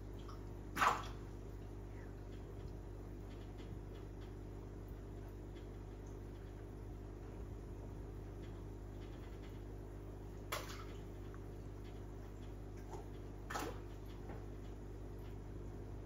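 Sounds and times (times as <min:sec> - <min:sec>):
aquarium equipment humming: 0:00.0 - 0:16.0.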